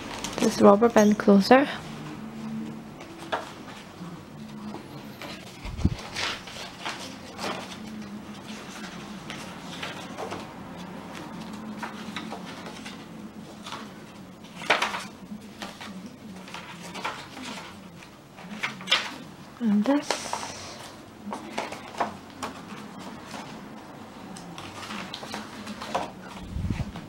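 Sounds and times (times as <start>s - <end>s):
paper pages rustling: 0.0s - 0.8s, 3.0s - 19.3s, 19.9s - 27.0s.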